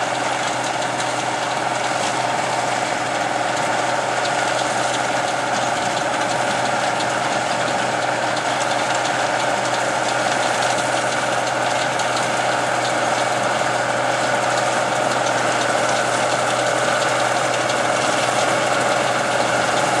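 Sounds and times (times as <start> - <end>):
combine harvester drone: 0.0 - 20.0.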